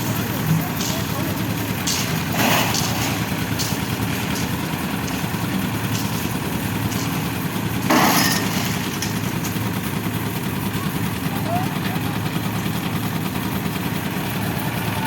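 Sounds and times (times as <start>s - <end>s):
concrete mixer engine running: 0.0s - 15.0s.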